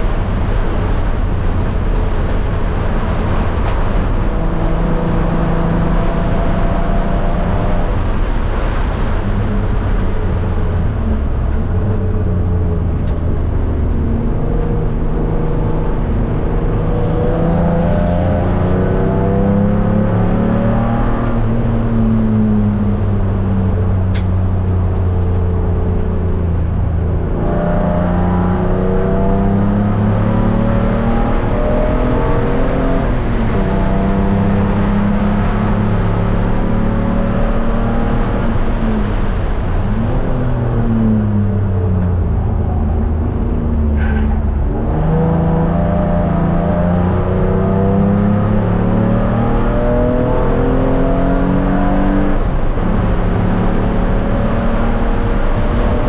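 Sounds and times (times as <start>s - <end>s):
race car engine: 0.0s - 56.0s
road noise: 0.0s - 56.0s.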